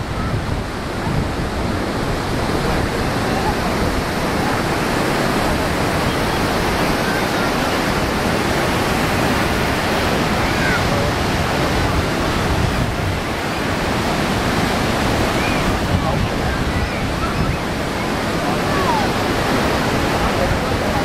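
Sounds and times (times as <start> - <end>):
ocean surf washing onto beach: 0.0 - 21.0.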